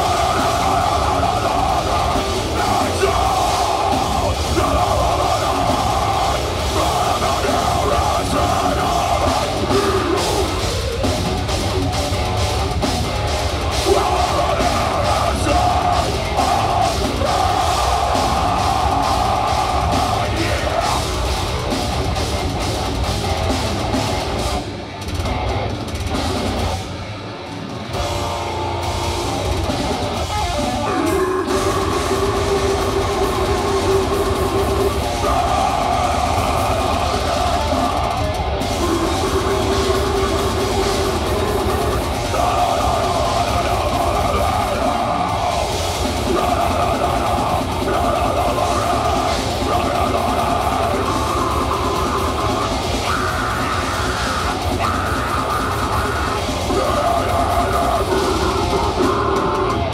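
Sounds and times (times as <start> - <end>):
distorted guitars and bass: 0.0 - 59.9
fast dense drumming: 0.0 - 59.9.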